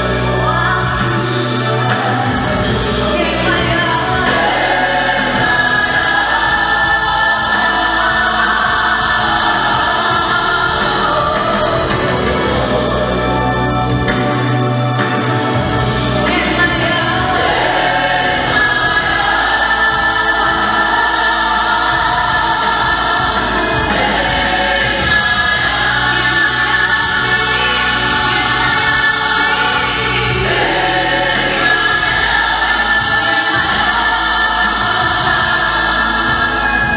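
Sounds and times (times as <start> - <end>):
choir singing in harmony: 0.0 - 36.9.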